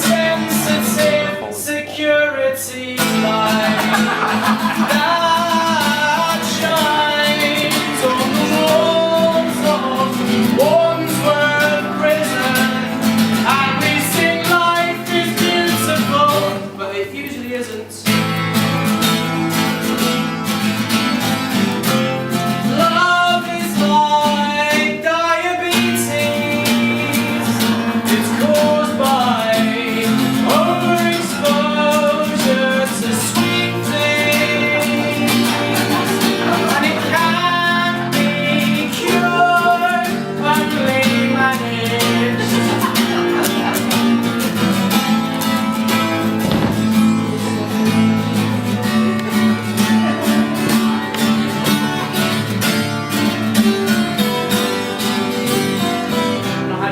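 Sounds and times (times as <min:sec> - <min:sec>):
man singing: 0:00.0 - 0:18.4, 0:21.8 - 0:55.2
acoustic guitar strumming: 0:00.0 - 0:56.9.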